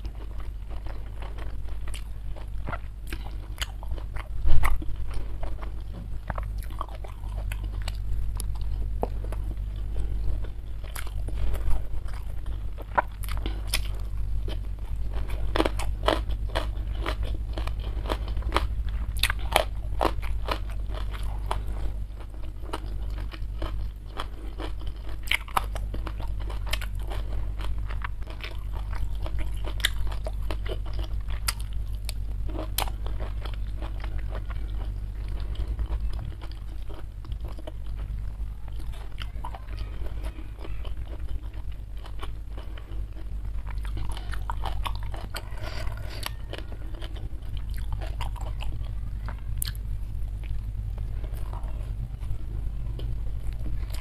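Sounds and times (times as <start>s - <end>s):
person chewing and biting: 0.0s - 38.2s, 38.8s - 49.0s, 49.6s - 54.0s
steady low hum: 0.0s - 54.0s.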